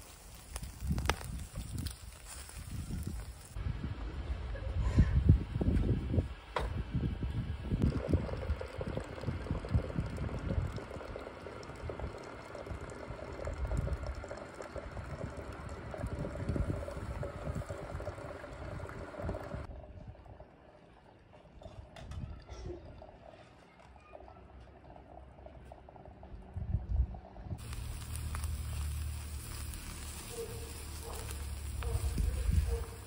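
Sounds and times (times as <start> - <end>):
water boiling and bubbling: 0.0 - 3.6, 7.6 - 22.0, 24.5 - 33.0.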